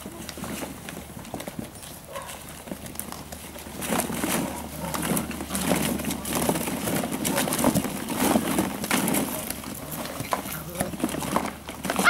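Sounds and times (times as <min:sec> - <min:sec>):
plastic balls clattering: 0:00.0 - 0:12.0
puppies scrambling: 0:00.0 - 0:12.0.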